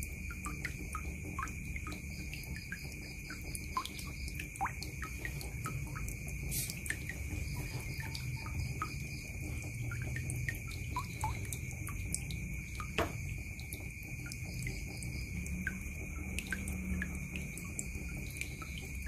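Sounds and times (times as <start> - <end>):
water dripping into basin: 0.0 - 19.0.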